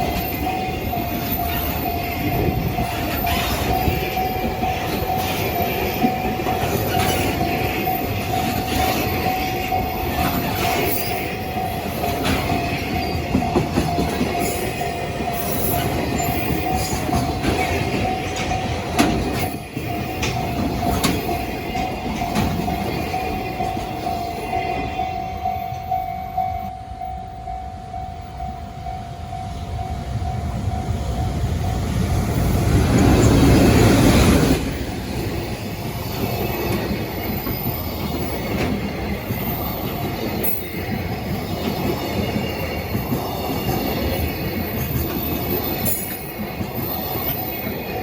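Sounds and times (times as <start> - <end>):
train wheels clicking over rail joints: 0.0 - 24.9, 31.8 - 48.0
level-crossing warning bell: 0.0 - 48.0.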